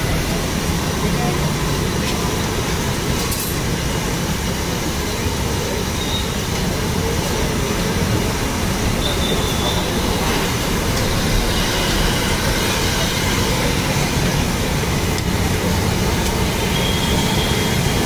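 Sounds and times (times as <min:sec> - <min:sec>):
food deep-frying in oil: 0:00.0 - 0:18.0.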